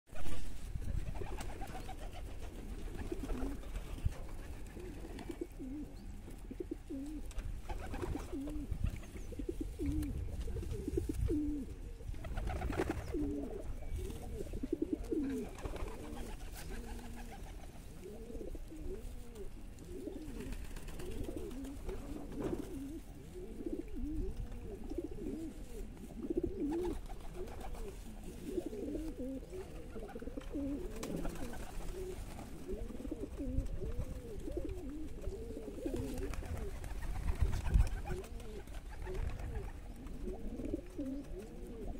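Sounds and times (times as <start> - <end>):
pigeons cooing: 0.2 - 41.9.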